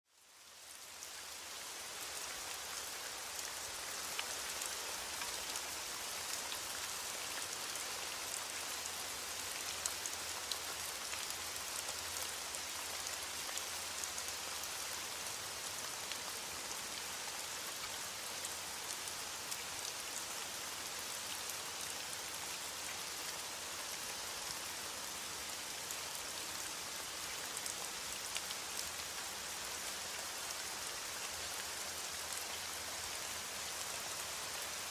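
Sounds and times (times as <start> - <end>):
rain falling on water: 0.1 - 34.9.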